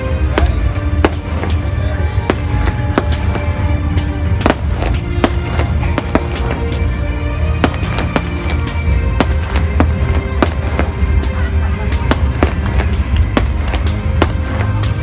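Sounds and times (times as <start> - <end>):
fireworks bangs and cracks: 0.0 - 15.0
music with held notes: 0.0 - 15.0.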